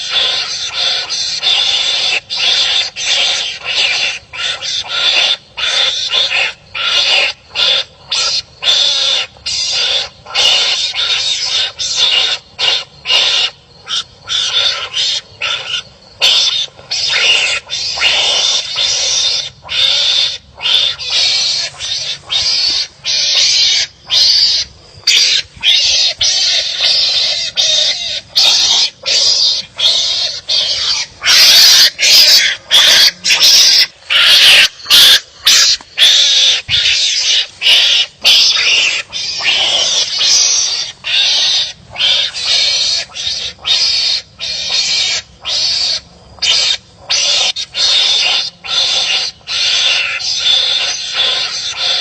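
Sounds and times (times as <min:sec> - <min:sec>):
animals barking harshly: 0:00.0 - 0:52.0.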